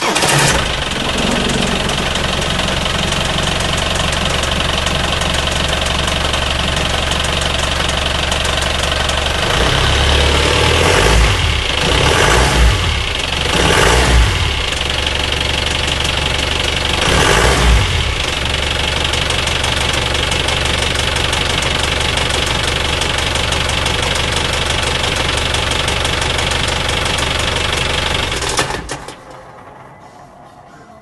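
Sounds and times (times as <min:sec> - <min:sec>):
engine running with ticking: 0:00.0 - 0:30.4.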